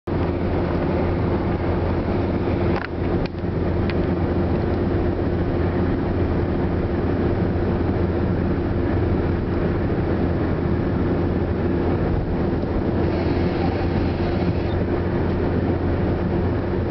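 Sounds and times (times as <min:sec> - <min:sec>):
road and engine noise in car: 0:00.0 - 0:16.9.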